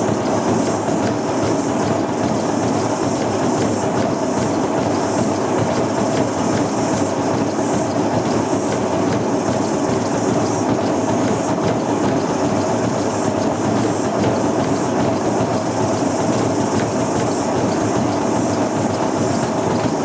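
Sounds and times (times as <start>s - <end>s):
washing machine rattling: 0.0s - 20.0s.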